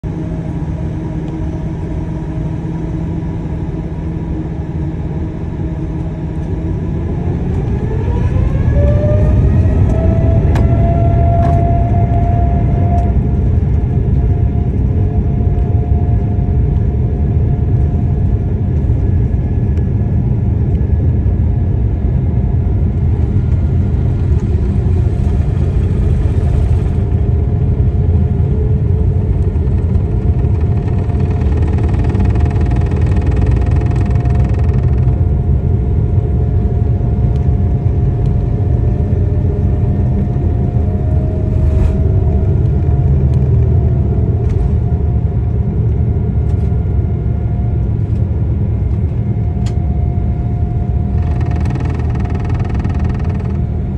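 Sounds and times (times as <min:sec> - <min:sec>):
jet engines whining and rumbling: 0:00.0 - 0:53.9.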